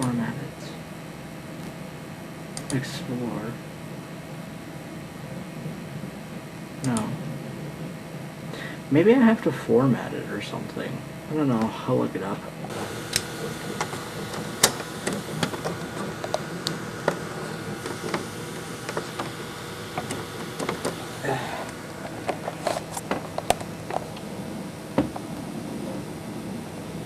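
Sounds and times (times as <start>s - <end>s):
desktop computer hum: 0.0s - 27.0s.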